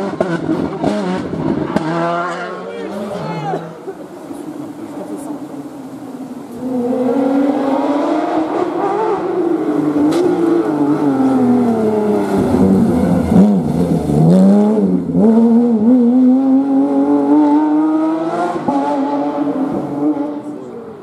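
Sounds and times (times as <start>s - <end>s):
rally car engine braking and accelerating: 0.0s - 21.0s.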